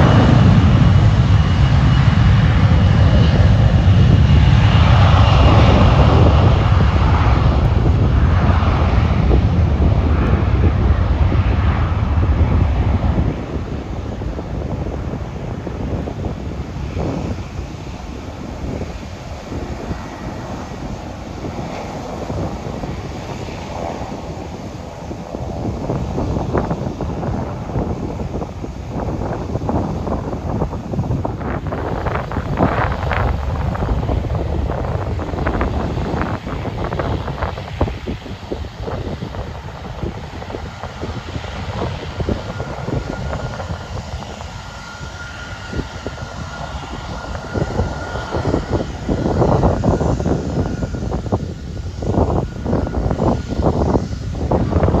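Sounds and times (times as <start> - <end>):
jet engines at takeoff: 0.0 - 55.0
wind buffeting microphone: 0.0 - 55.0.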